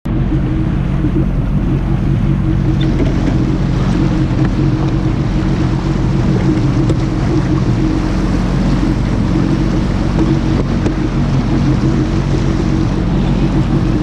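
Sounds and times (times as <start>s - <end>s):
jet ski engine running: 0.0s - 14.0s
rushing water: 0.0s - 14.0s
wind noise: 0.0s - 14.0s.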